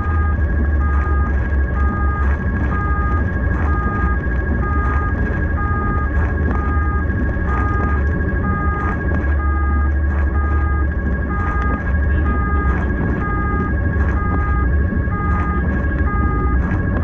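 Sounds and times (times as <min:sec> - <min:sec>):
two-tone emergency siren: 0:00.0 - 0:17.0
vehicle low rumble: 0:00.0 - 0:17.0.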